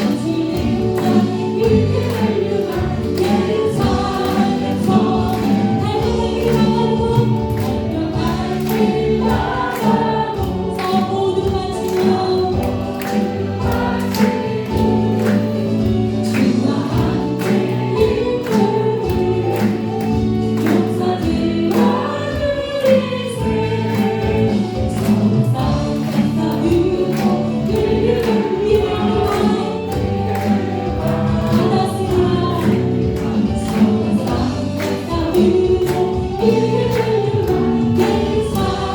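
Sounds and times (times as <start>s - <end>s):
choir and congregation singing: 0.0s - 38.9s
full band with steady beat: 0.0s - 38.9s.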